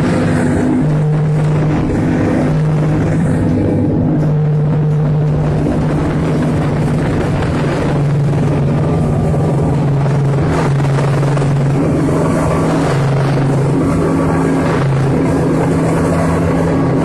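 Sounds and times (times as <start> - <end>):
rush of noise: 0.0 - 17.0
snowmobile engine droning: 0.0 - 17.0.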